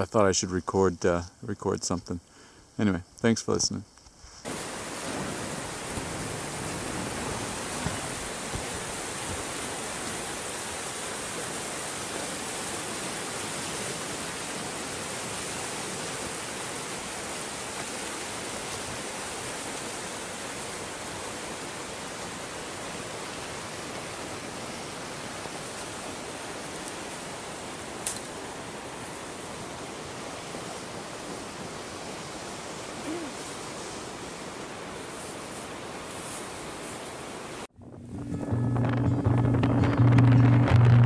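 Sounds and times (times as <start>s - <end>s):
river water rushing: 4.5s - 37.7s.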